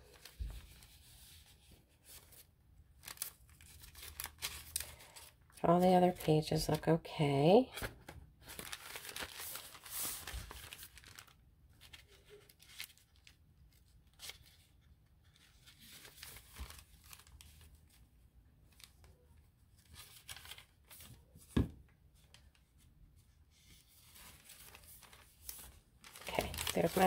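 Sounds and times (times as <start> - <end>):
paper pages rustling: 0.0 - 6.9, 7.7 - 18.1, 18.7 - 21.6, 22.2 - 27.0.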